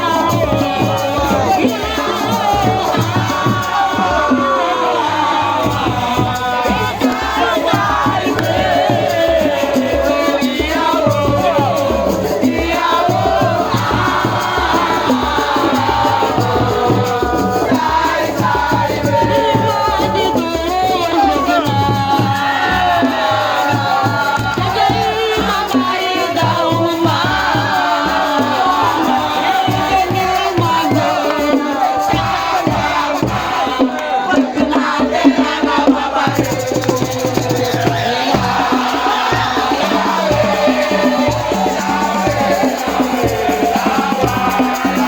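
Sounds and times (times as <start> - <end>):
crowd singing and shouting: 0.0 - 45.0
fast loud drumming: 0.0 - 45.0.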